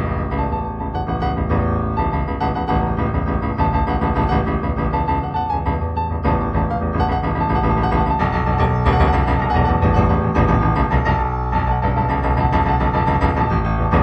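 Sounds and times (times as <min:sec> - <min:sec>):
improvised piano chords: 0:00.0 - 0:14.0.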